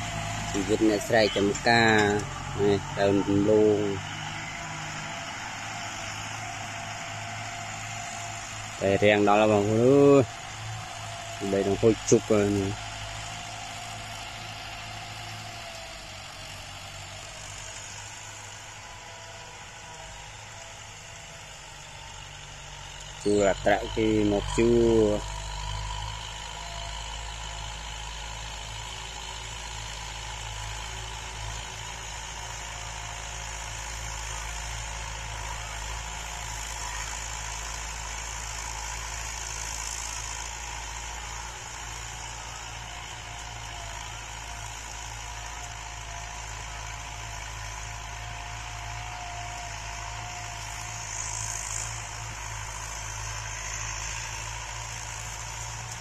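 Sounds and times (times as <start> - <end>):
distant tractor engine running: 0.0 - 56.0.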